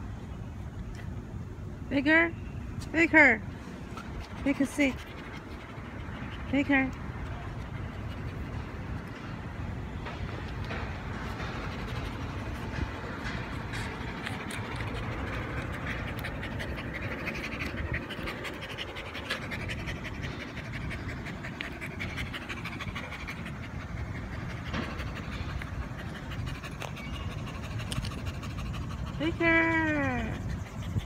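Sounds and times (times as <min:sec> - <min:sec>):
dog panting: 0:03.8 - 0:31.0.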